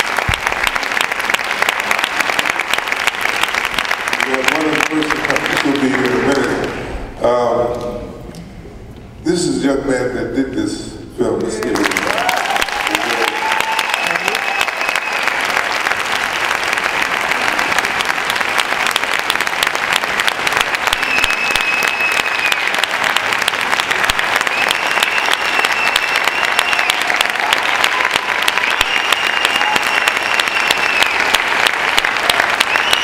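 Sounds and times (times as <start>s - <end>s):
audience applauding: 0.0s - 6.9s, 11.5s - 33.0s.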